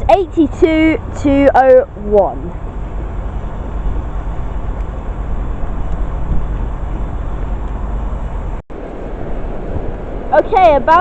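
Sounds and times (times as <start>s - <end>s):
diesel train rumbling: 0.0s - 11.0s.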